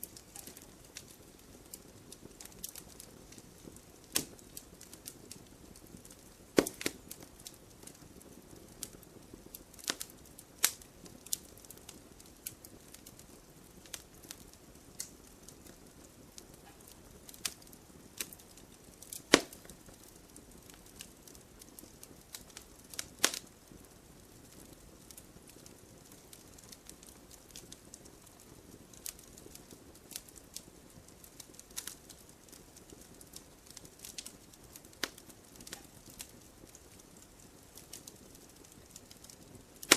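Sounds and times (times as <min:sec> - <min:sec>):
faint steady hiss: 0:00.0 - 0:39.9
fire crackling and popping: 0:00.0 - 0:39.9.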